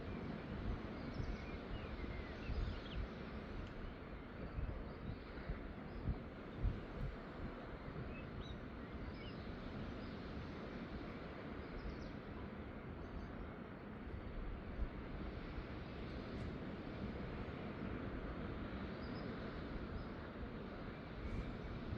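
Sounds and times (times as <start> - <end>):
seaside outdoor rush: 0.0 - 21.9.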